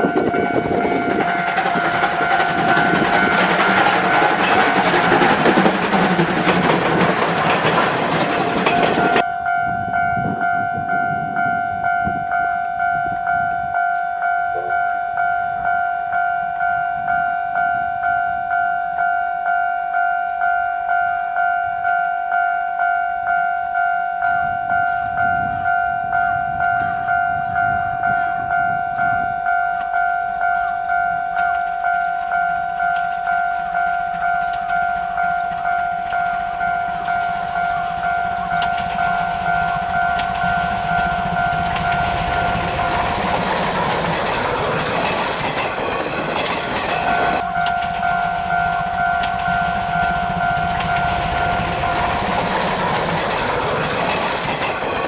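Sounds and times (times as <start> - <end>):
level-crossing alarm clanging: 0.0 - 55.0.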